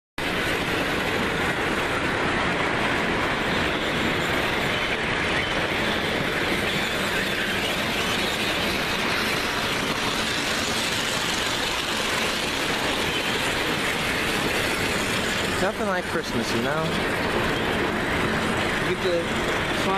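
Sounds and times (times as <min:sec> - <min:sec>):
model train wheels rumbling on rails: 0:00.2 - 0:19.9.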